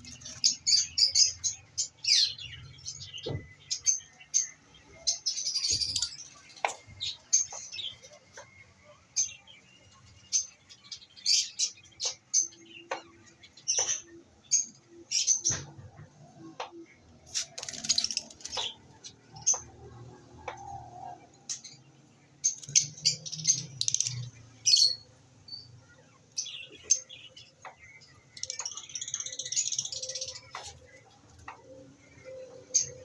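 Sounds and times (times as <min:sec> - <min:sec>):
lovebirds chirping: 0:00.0 - 0:15.7, 0:16.9 - 0:33.0.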